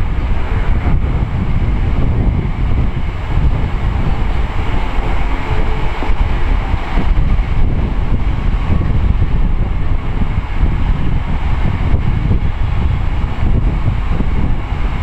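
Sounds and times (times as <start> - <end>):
train passing on rails: 0.0 - 15.0.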